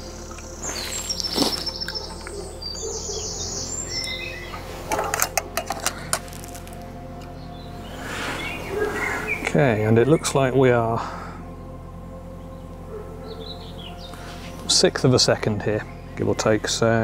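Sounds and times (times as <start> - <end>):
small birds chirping: 0.0 - 5.0, 5.9 - 17.0.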